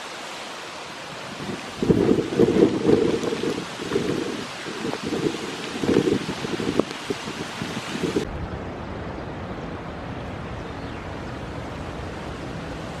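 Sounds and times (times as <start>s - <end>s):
wind buffeting microphone: 1.2s - 13.0s.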